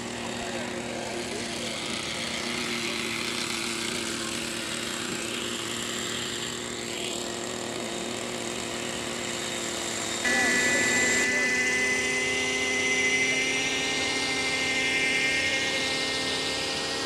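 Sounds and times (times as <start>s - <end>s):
model helicopter whirring hum: 0.0s - 17.0s.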